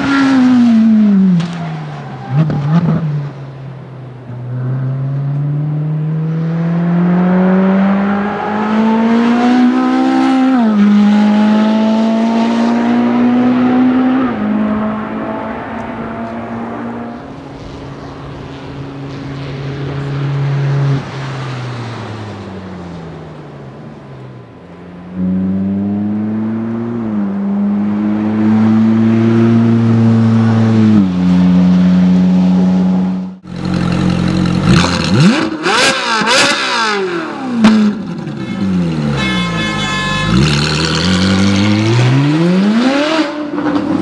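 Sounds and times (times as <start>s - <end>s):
engine rev blips and cracks: 0.0s - 44.0s
sports car engine accelerating: 0.0s - 44.0s.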